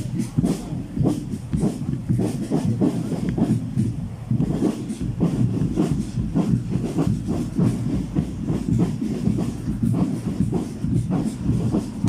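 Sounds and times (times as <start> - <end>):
marchers' footsteps on asphalt: 0.0 - 12.0.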